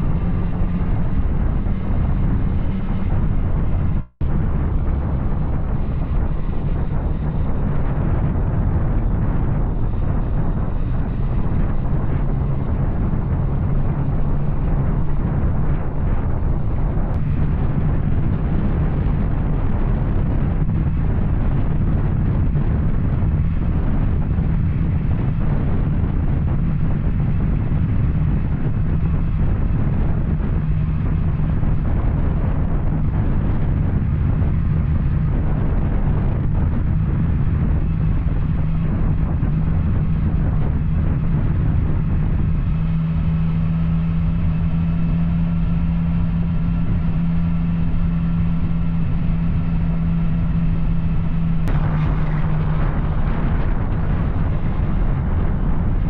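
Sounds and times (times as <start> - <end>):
deep motorcycle engine drone: 0.0 - 56.0.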